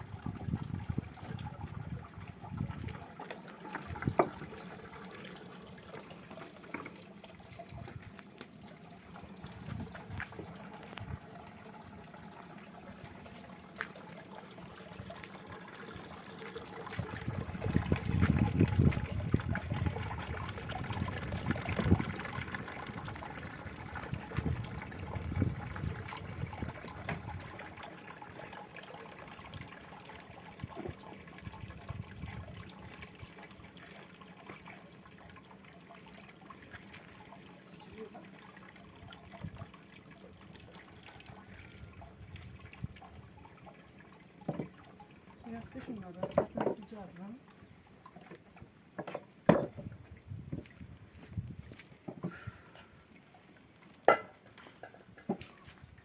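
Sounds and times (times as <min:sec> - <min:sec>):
liquid sloshing and trickling: 0:00.0 - 0:56.0.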